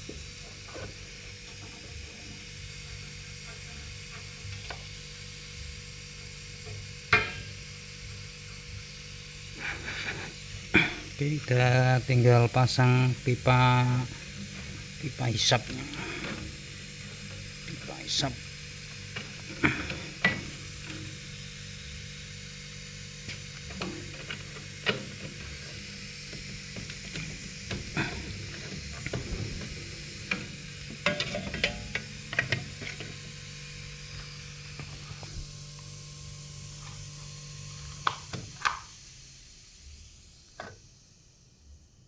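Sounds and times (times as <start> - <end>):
low hum and hiss: 0.0 - 38.7.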